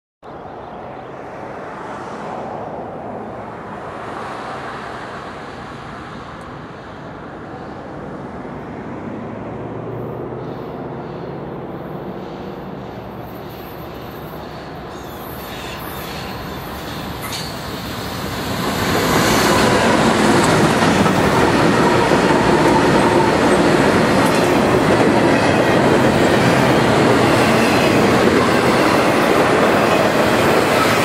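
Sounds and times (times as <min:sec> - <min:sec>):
diesel locomotive engine drone: 0:00.3 - 0:31.0.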